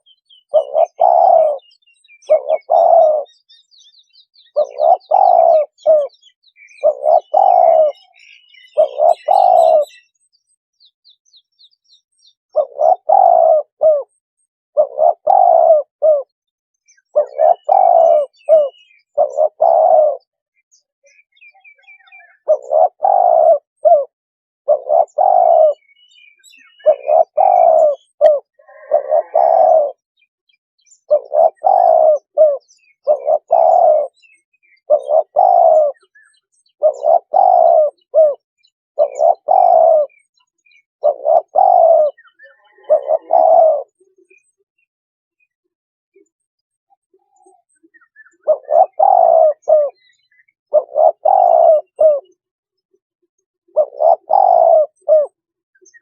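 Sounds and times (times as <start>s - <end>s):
dove cooing: 0.0s - 3.5s, 4.4s - 10.1s, 12.5s - 16.3s, 16.9s - 20.4s, 21.6s - 30.0s, 31.0s - 38.4s, 39.0s - 44.6s, 47.1s - 52.4s, 53.7s - 56.0s
small birds chirping: 0.0s - 56.0s.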